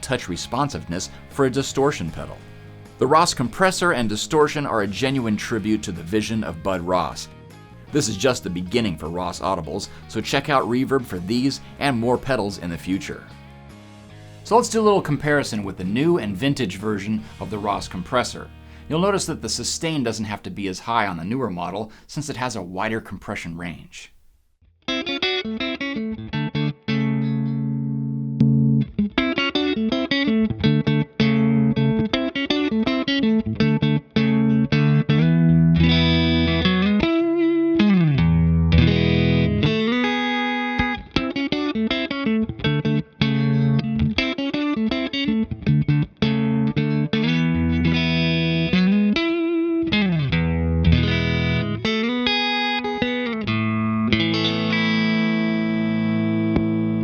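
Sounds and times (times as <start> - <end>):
electric guitar playing: 0.0 - 21.6, 24.8 - 57.0.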